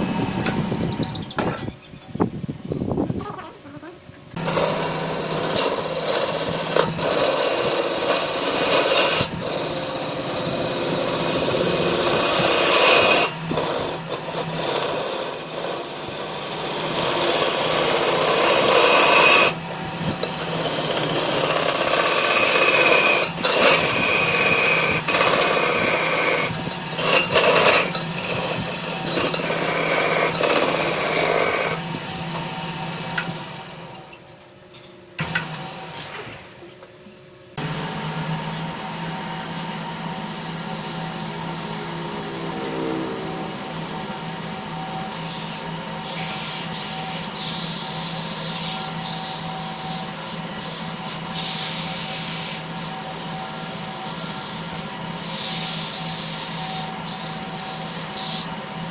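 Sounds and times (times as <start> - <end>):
lathe motor humming: 0.0 - 1.2, 4.4 - 32.6, 37.6 - 58.9
cutting tool scraping spinning wood: 0.0 - 1.6, 4.4 - 31.8, 40.2 - 58.9.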